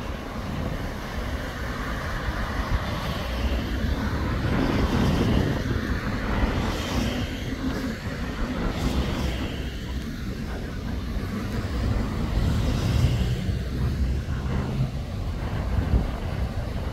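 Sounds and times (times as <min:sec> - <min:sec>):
bus engine rumbling: 0:00.0 - 0:16.9.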